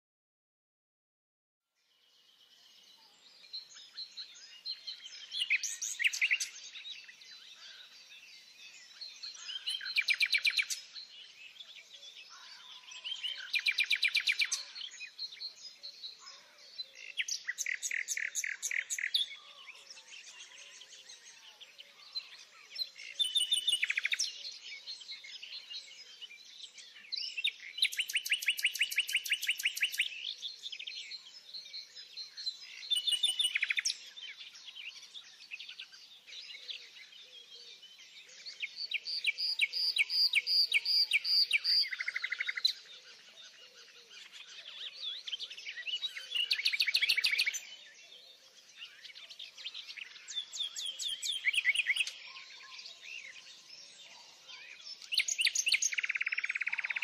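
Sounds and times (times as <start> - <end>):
birds chirping: 1.9 - 57.0.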